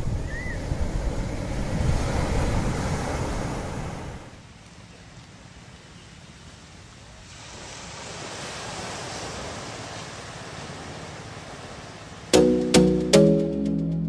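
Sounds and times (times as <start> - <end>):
waves washing onto beach: 0.0 - 12.4.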